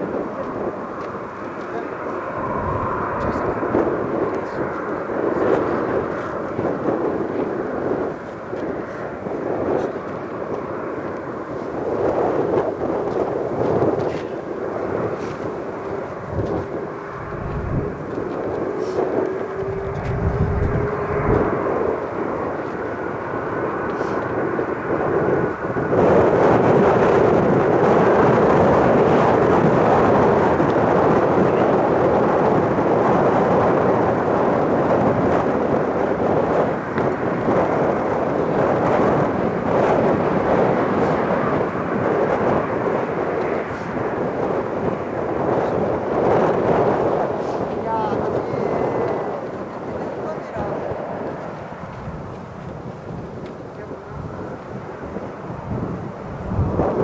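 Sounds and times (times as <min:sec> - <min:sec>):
jet airliner passing overhead: 0:00.0 - 0:57.0
wind buffeting microphone: 0:00.0 - 0:57.0.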